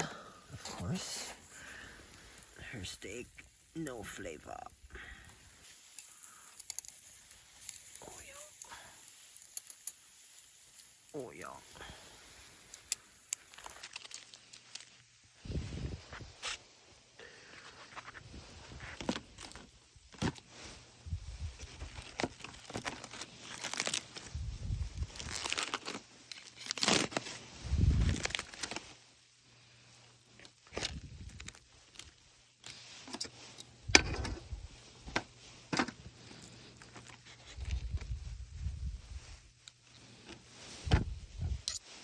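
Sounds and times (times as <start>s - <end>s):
rustling and crinkling: 0.1s - 42.0s.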